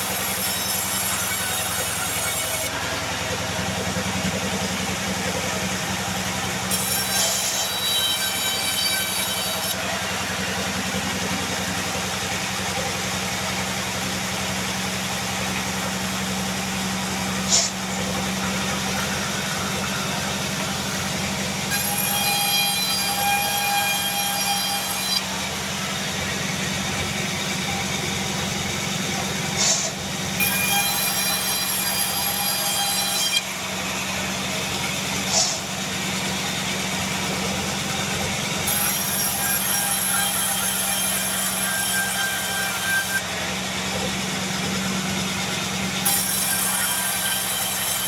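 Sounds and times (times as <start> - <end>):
band sawmill humming: 0.0 - 48.0
high saw whine: 0.0 - 48.0.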